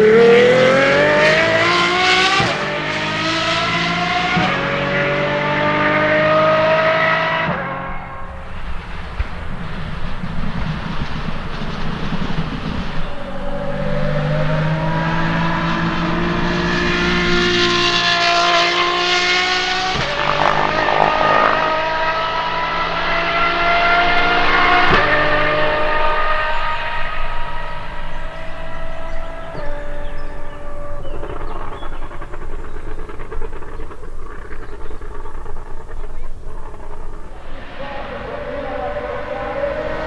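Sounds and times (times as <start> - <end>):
car engine at full throttle: 0.0 - 40.0.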